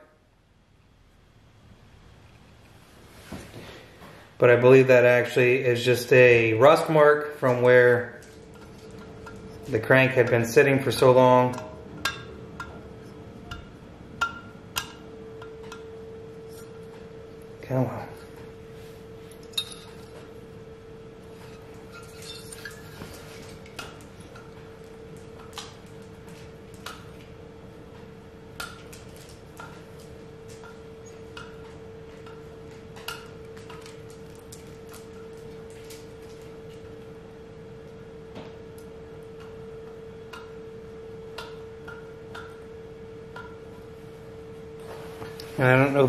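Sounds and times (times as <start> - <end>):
faint hum: 0.0 - 46.0.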